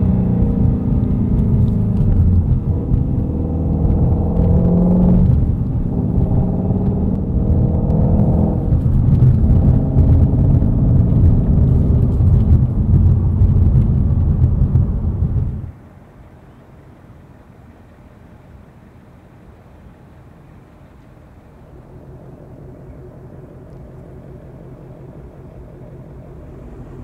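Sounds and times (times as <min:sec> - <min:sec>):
car engine rumble from cabin: 0:00.0 - 0:27.0.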